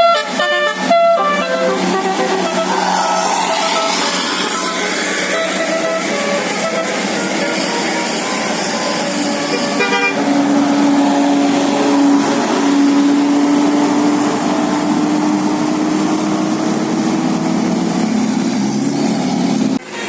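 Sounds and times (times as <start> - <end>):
diesel engine drone: 0.0 - 20.0
road noise: 0.0 - 20.0.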